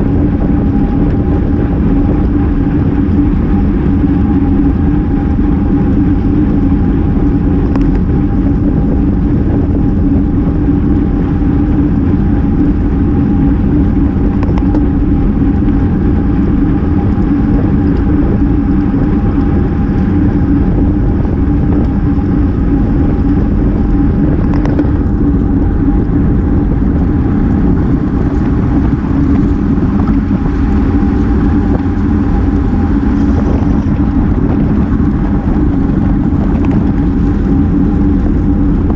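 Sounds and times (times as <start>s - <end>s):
steady hum: 0.0s - 38.9s
wind and road noise: 0.0s - 38.9s.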